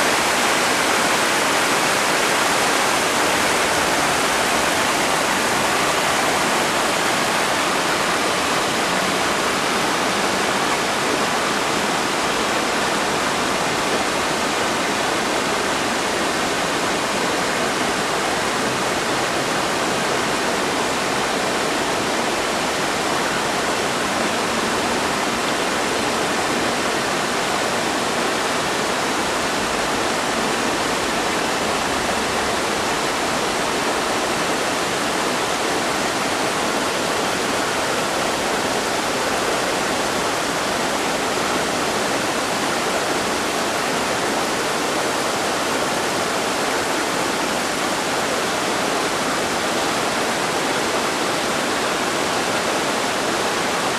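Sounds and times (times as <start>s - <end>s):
waterfall pouring into pool: 0.0s - 53.9s.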